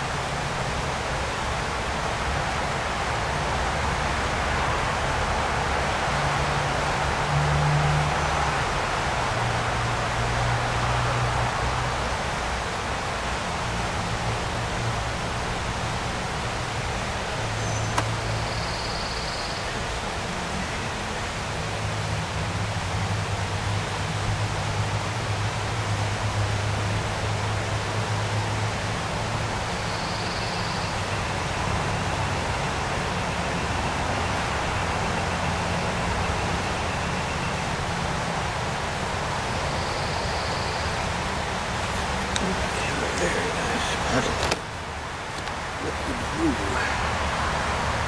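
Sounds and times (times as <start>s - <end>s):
rushing outdoor background noise: 0.0s - 48.0s.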